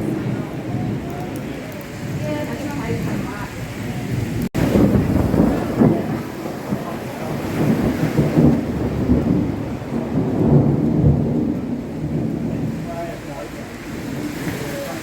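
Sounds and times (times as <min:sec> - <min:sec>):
heavy rain hissing: 0:00.0 - 0:15.0
thunder rumbling: 0:00.0 - 0:15.0.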